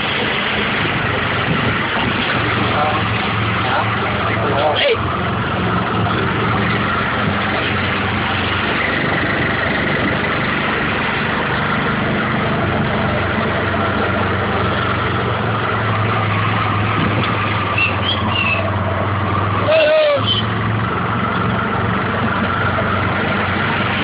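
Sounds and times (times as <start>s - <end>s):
motor-taxi engine running: 0.0s - 24.0s.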